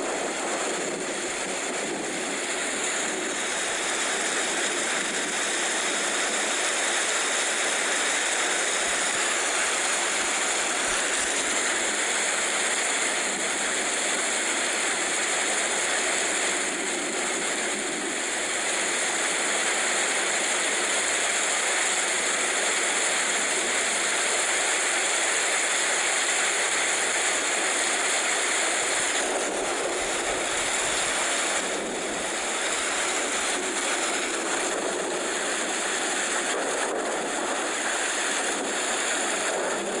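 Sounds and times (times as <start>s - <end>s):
rain falling steadily: 0.1s - 40.0s.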